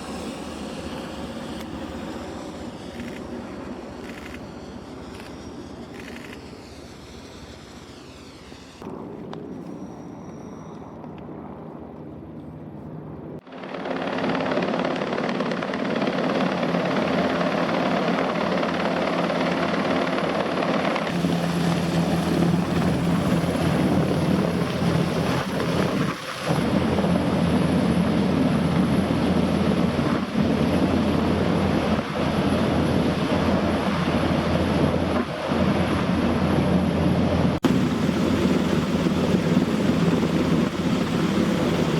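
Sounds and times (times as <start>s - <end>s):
helicopter rotor and turbine noise: 0.0s - 41.9s.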